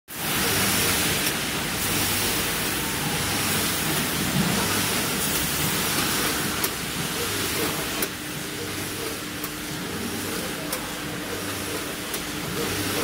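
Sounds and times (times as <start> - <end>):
machinery rushing air noise: 0.1 - 13.0.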